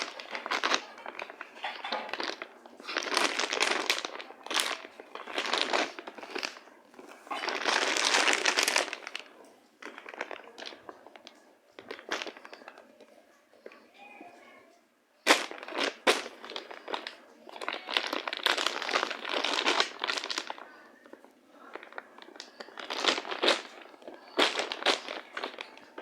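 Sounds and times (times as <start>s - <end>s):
crinkling and crumpling: 0.0s - 26.0s.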